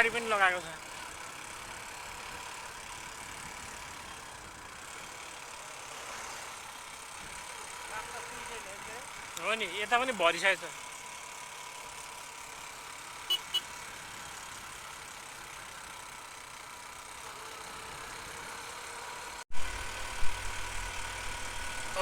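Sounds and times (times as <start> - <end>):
motorcycle running on road: 0.0 - 22.0
road and wind noise hiss: 0.0 - 22.0.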